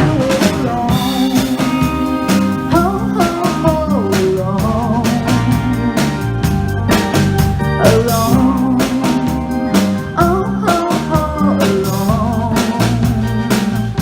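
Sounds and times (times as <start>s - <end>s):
drum kit beat: 0.0s - 14.0s
soul blues band playing: 0.0s - 14.0s
wavering lead melody: 0.0s - 14.0s.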